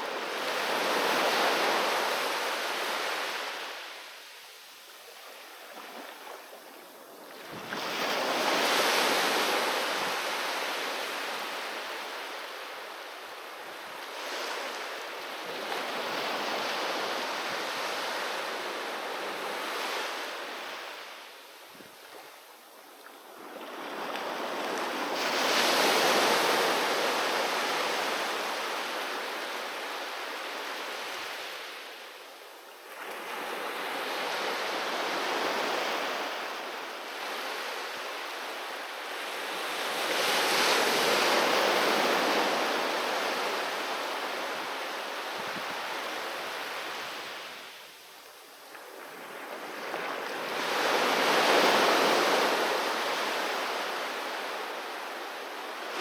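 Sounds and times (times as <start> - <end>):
sea waves breaking on shore: 0.0 - 21.4, 22.0 - 32.1, 32.8 - 47.8, 48.6 - 56.0.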